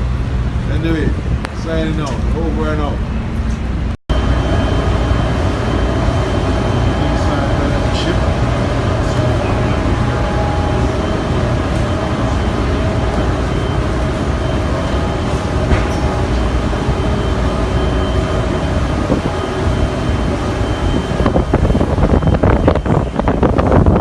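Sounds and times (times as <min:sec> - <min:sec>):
ferry engine drone: 0:00.0 - 0:24.0
steady hum tones: 0:00.0 - 0:24.0
wind buffeting microphone: 0:04.3 - 0:24.0.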